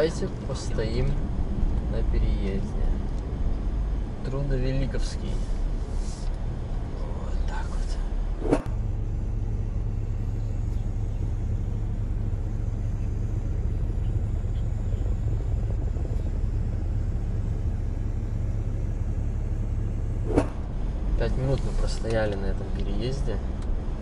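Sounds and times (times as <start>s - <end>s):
car cabin rumble: 0.0s - 24.0s.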